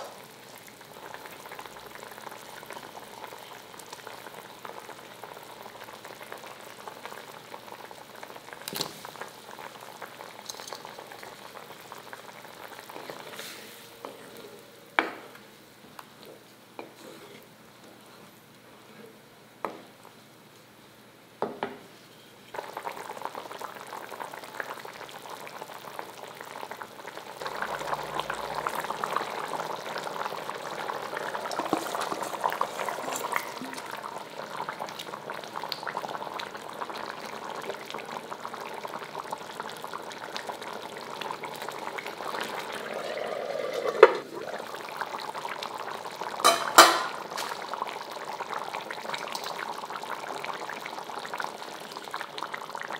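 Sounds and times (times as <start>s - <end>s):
gravy bubbling in a pot: 0.0s - 14.6s, 22.5s - 52.9s.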